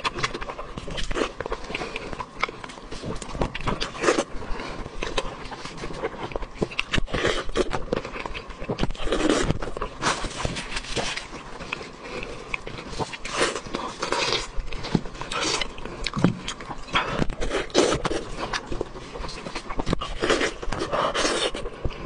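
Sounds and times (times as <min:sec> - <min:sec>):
wet chewing and slurping: 0:00.0 - 0:22.0.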